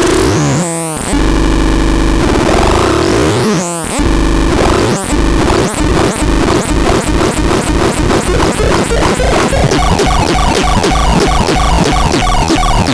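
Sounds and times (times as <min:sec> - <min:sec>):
harsh buzzing synthesizer drone: 0:00.0 - 0:12.9.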